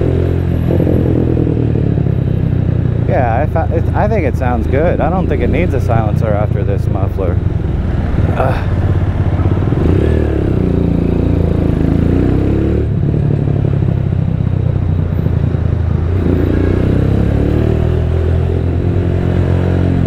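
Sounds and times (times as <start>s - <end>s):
motorcycle exhaust accelerating: 0.0s - 20.0s.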